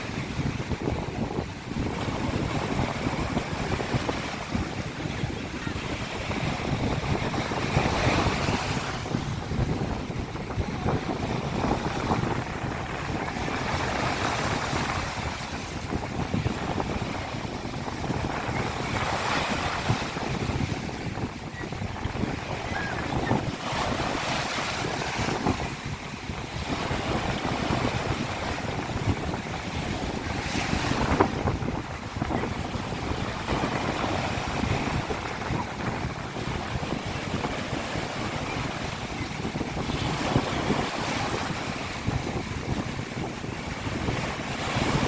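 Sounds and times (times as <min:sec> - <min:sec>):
waves breaking on beach: 0:00.0 - 0:45.0
wind buffeting microphone: 0:00.0 - 0:45.0.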